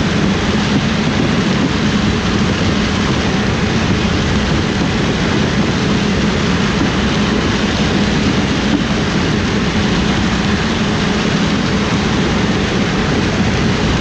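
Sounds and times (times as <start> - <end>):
engine droning: 0.0 - 14.0
rushing mechanical noise: 0.0 - 14.0.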